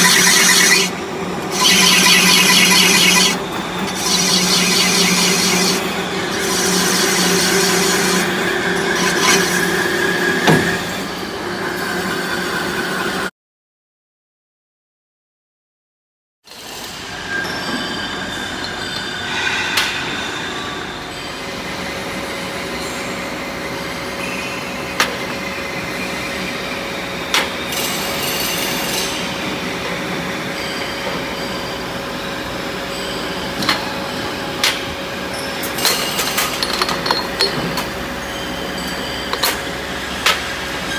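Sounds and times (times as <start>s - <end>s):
factory machinery hum: 0.0s - 13.3s, 16.6s - 40.9s.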